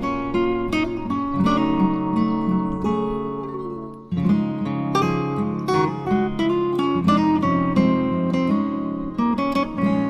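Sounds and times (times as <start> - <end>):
acoustic guitar plucked and strummed: 0.0 - 10.0.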